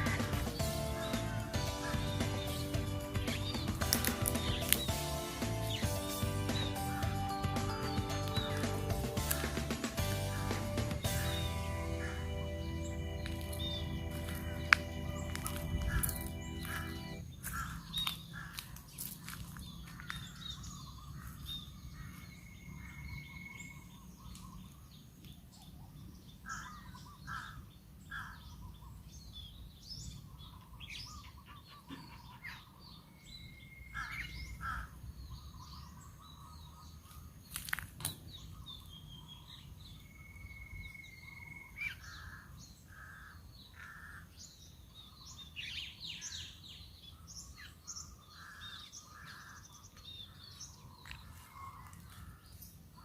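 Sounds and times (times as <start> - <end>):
outdoor background noise: 0.0 - 53.0
wild birds calling: 0.0 - 53.0.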